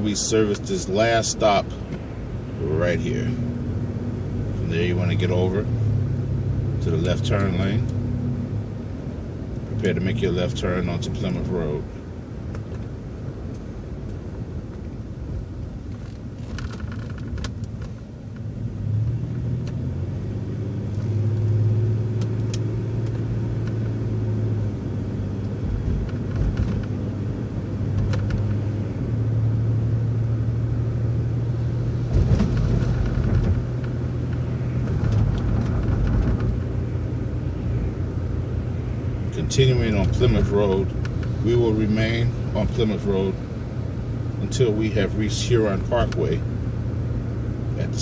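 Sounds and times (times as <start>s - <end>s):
bus engine drone: 0.0s - 48.0s.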